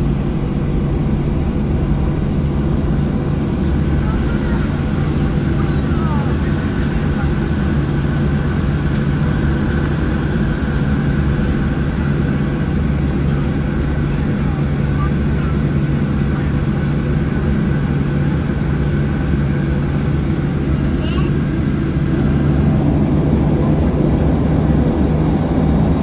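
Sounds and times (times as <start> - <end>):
aircraft engines droning: 0.0 - 26.0
faint high whine: 3.0 - 24.4.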